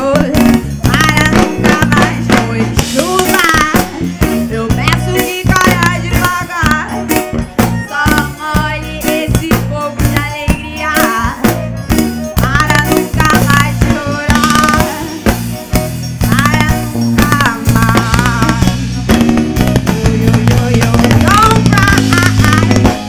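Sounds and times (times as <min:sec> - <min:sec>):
woman singing into a microphone: 0:00.0 - 0:15.4, 0:16.2 - 0:19.0, 0:19.7 - 0:23.0
drum kit: 0:00.0 - 0:23.0
electric bass: 0:00.0 - 0:23.0
keyboards: 0:00.0 - 0:23.0.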